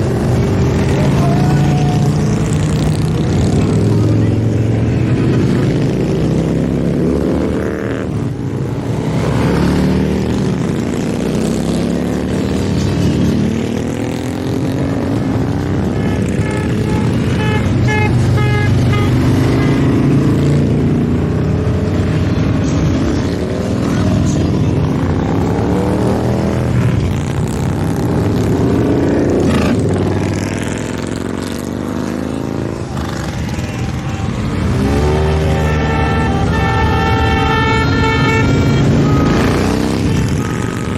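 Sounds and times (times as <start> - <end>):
motorcycles riding past: 0.0 - 40.9.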